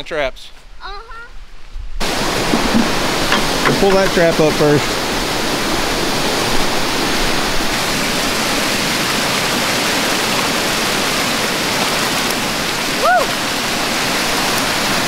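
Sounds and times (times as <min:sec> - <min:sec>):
creek water rushing over rocks: 0:02.0 - 0:15.0.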